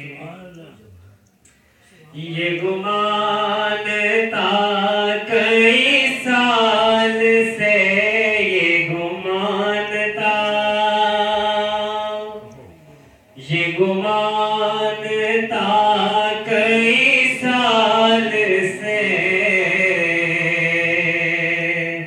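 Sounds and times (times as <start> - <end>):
man singing unaccompanied: 2.0 - 22.0.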